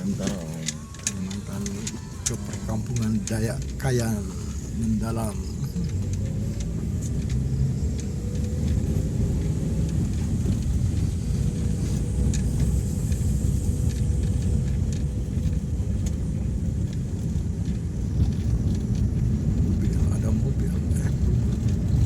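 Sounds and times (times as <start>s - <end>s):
vehicle engine and tyres rumbling: 0.0s - 22.0s.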